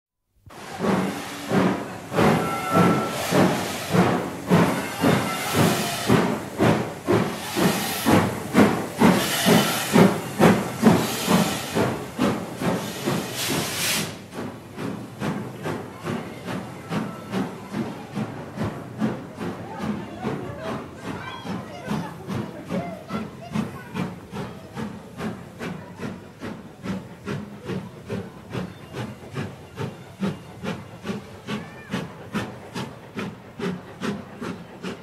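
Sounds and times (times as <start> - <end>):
steam locomotive exhaust chuffs: 0.4 - 35.0
loud hiss of steam: 0.5 - 35.0.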